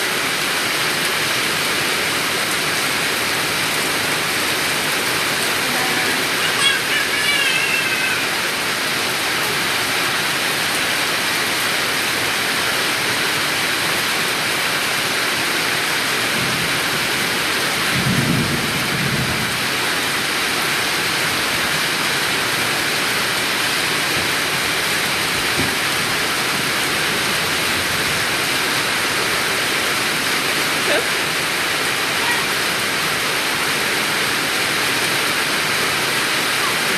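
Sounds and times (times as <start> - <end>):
steady rain hissing: 0.0 - 36.9.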